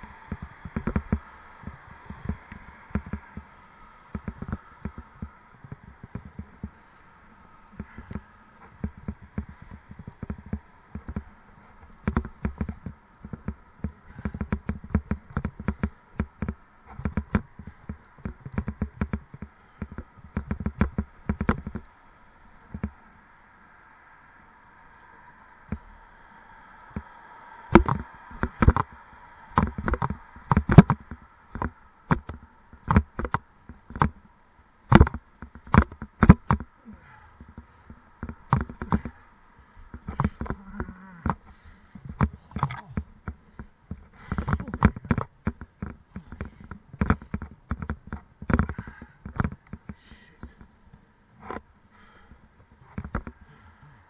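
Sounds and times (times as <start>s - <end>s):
sharp knocks and rattles: 0.0s - 3.5s, 4.1s - 6.8s, 7.6s - 21.9s, 27.7s - 34.3s, 34.9s - 36.7s, 37.3s - 39.2s, 39.8s - 53.6s
faint steady buzz: 0.0s - 54.0s.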